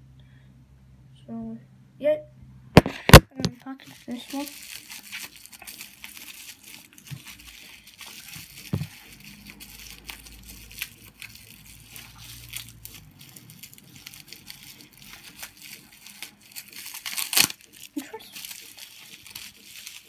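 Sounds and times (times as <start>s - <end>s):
packaging rustling: 2.8s - 20.0s.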